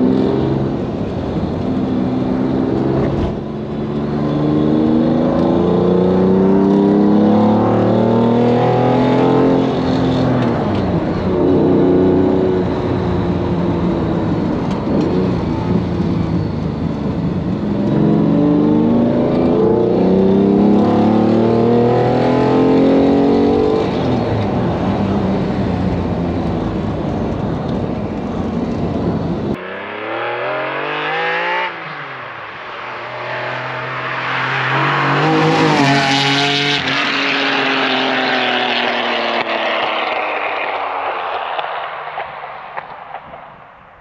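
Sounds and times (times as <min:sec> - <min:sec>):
car engine accelerating: 0:00.0 - 0:42.2.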